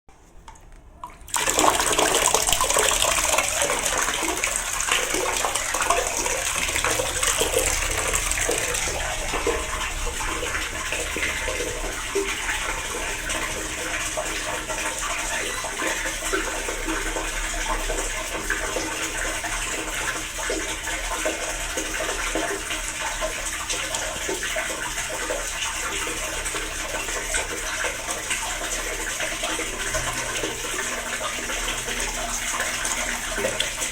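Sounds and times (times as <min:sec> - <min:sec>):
water running and splashing: 0:01.0 - 0:33.9.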